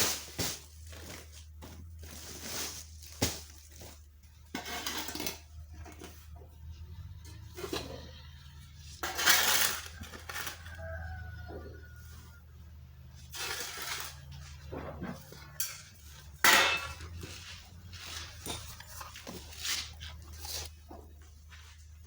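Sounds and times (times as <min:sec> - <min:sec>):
containers clattering and scraping: 0:00.0 - 0:22.0.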